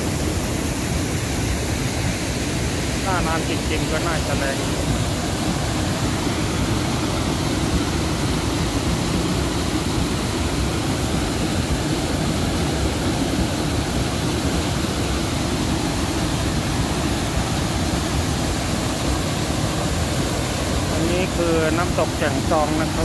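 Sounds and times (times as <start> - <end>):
waterfall roaring over rocks: 0.0 - 23.0.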